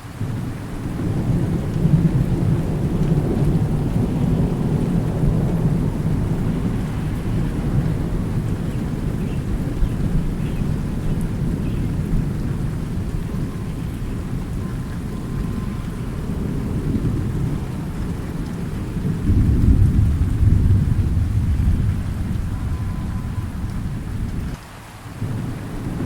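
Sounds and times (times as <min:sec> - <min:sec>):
steady rain: 0:00.0 - 0:26.0
thunder rumbling: 0:00.2 - 0:24.6, 0:25.2 - 0:26.0.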